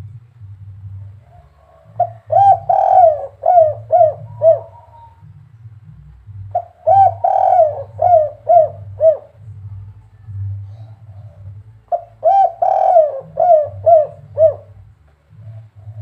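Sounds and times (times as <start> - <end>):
faint low hum: 0.0 - 16.0
dove cooing: 0.8 - 16.0.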